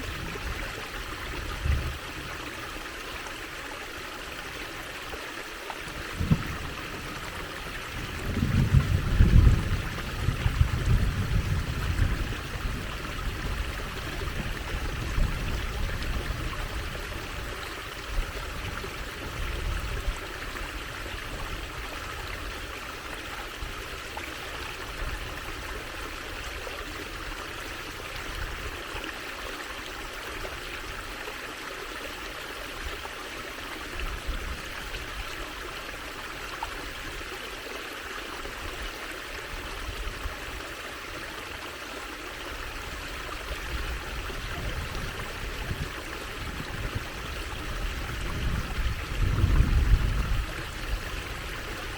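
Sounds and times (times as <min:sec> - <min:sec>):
water trickling: 0:00.0 - 0:51.9.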